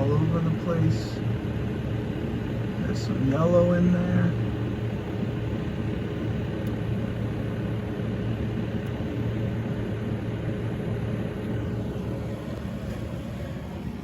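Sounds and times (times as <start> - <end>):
gas furnace burner rumble: 0.0 - 14.0.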